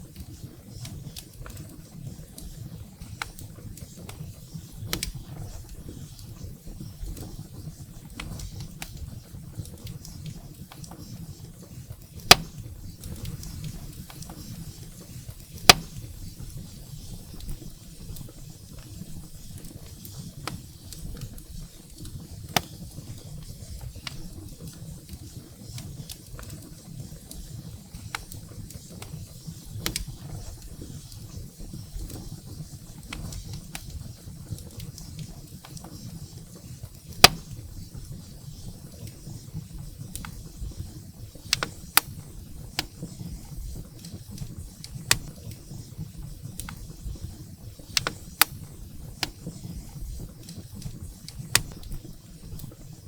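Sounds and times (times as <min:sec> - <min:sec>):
fire rumbling in fireplace: 0:00.0 - 0:53.0
firewood popping and crackling: 0:00.0 - 0:53.0.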